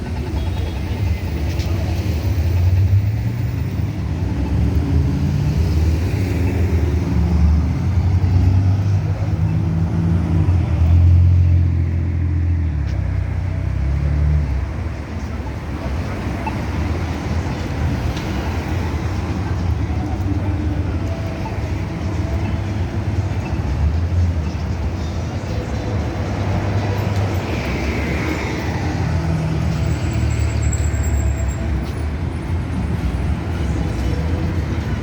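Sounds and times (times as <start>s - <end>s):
vehicle engines rumbling past: 0.0s - 35.0s.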